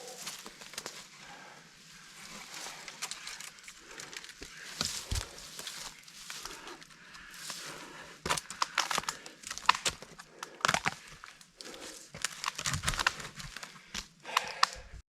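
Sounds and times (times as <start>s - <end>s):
tree cracking and splintering: 2.2s - 15.0s
dry wood snapping: 2.6s - 15.0s.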